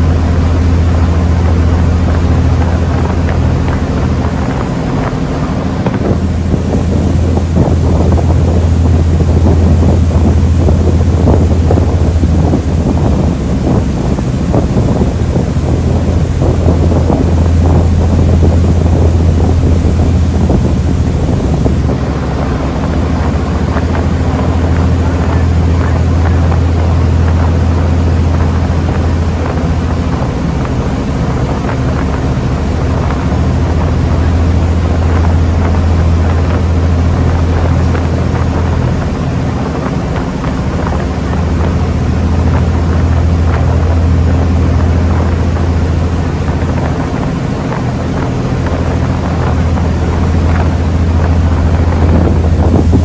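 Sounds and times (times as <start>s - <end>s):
boat engine droning: 0.0s - 53.0s
water rushing: 0.0s - 53.0s
wind noise: 0.0s - 53.0s.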